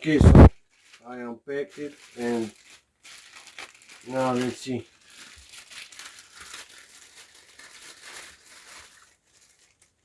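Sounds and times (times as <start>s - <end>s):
packaging crinkling and rustling: 0.6s - 10.0s.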